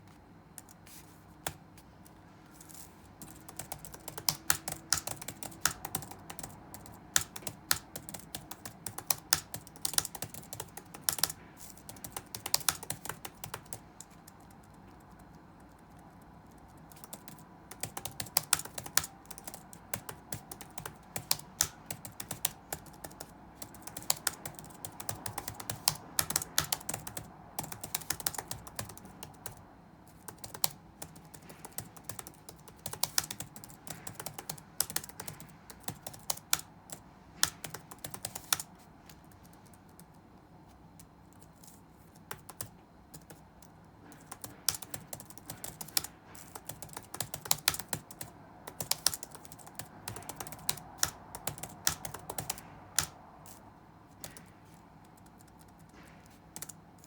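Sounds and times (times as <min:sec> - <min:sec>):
computer keyboard typing: 0:00.5 - 0:40.2, 0:40.9 - 0:57.0.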